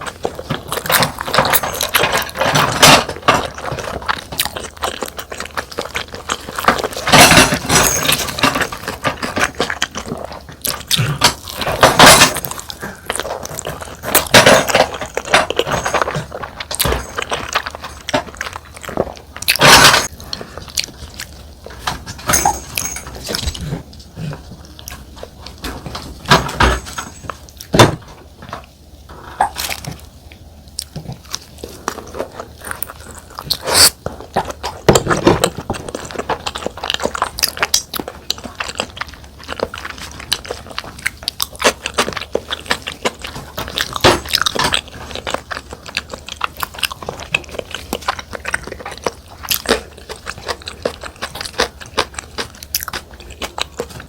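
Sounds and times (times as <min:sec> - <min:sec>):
close chewing and biting: 0:00.0 - 0:54.0.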